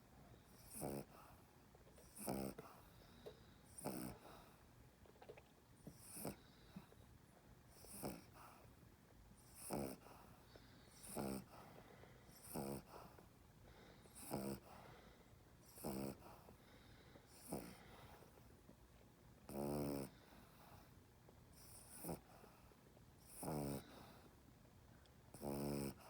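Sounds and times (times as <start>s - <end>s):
dog snoring: 0.5s - 4.6s, 5.8s - 7.0s, 7.7s - 8.7s, 9.4s - 18.5s, 19.4s - 24.3s, 25.3s - 26.0s.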